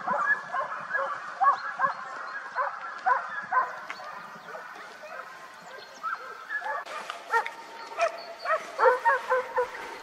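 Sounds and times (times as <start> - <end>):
hunting dogs baying and yelping: 0.0 - 10.0.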